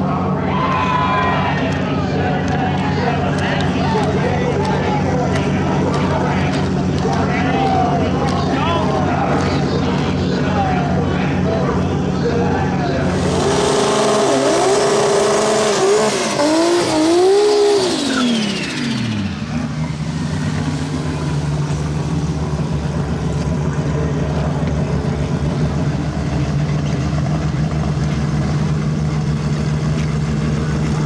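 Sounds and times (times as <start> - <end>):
low engine idle: 0.0 - 31.0
race car engine revving: 0.0 - 31.0.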